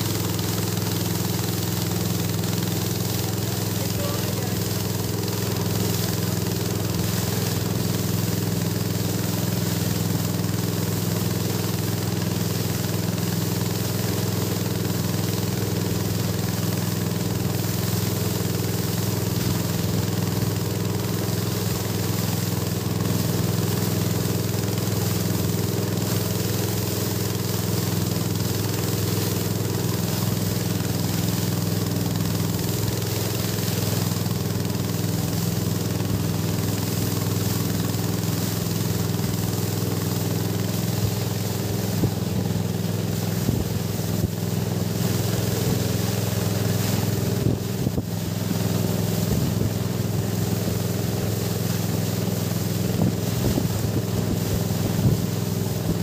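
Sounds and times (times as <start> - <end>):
boat engine humming: 0.0 - 56.0
wind and water hiss: 0.0 - 56.0.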